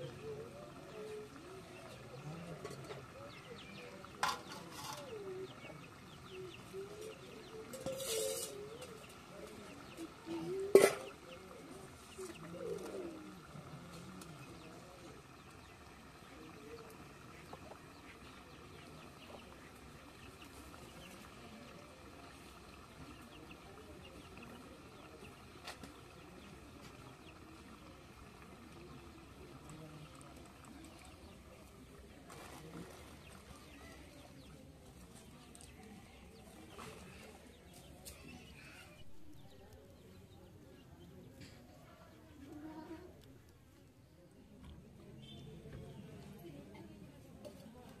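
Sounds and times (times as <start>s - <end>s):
chickens clucking: 0.0s - 39.5s.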